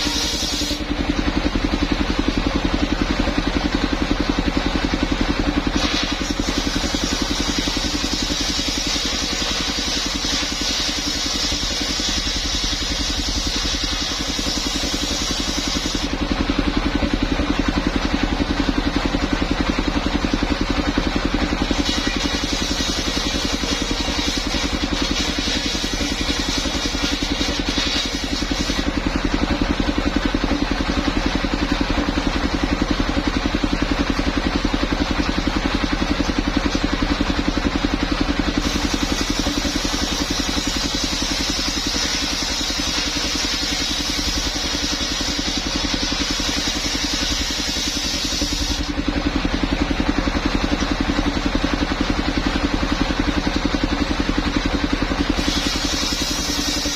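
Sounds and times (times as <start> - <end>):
sawmill engine running: 0.0 - 56.9.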